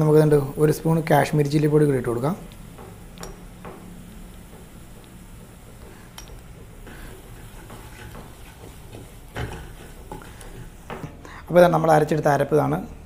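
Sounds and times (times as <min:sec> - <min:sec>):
spices frying in oil: 0:00.0 - 0:13.0.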